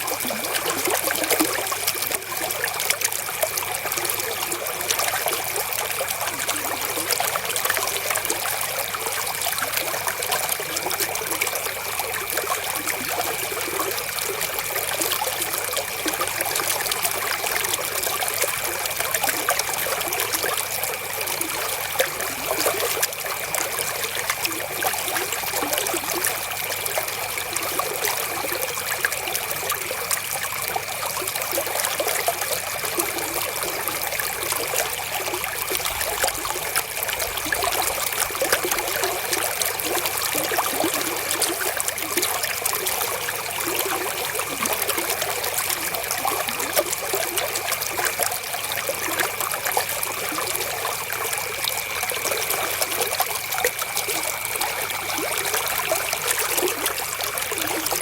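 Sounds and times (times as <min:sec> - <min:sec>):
river water splashing over stones: 0:00.0 - 0:58.0.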